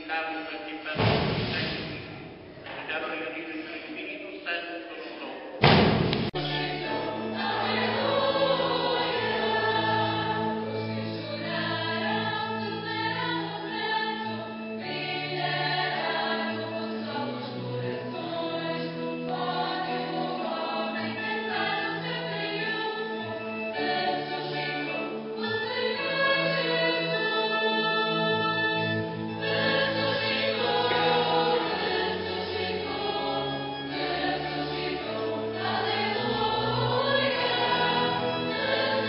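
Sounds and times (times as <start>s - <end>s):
church choir singing a hymn: 6.3s - 39.0s.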